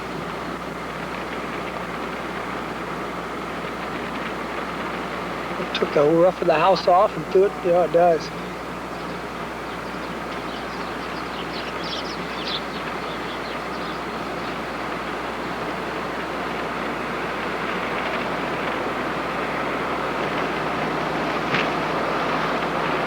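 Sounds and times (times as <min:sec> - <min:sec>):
car driving rumble: 0:00.0 - 0:23.0.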